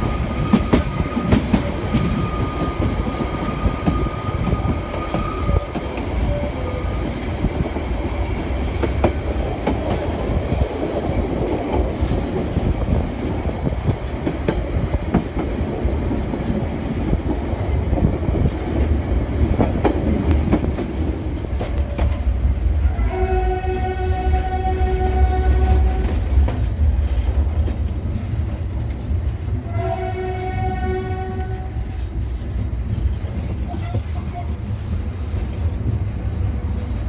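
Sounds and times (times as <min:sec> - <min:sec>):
train rumbling on track: 0:00.0 - 0:37.0.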